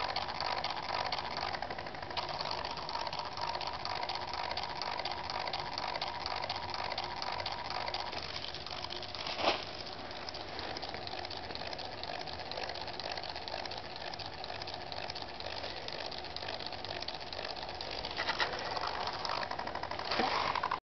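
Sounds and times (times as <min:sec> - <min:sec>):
stepper motor rattling: 0:00.0 - 0:20.8.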